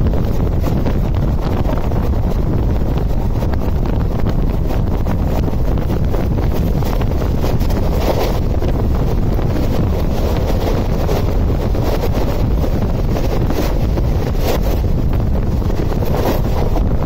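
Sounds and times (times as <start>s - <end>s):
train running at speed: 0.0s - 17.0s
wind rushing over microphone: 0.0s - 17.0s.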